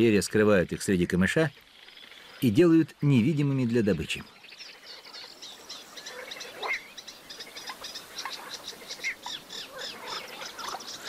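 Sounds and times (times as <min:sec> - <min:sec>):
birds chirping: 0:00.0 - 0:11.0
frogs calling: 0:00.0 - 0:11.0.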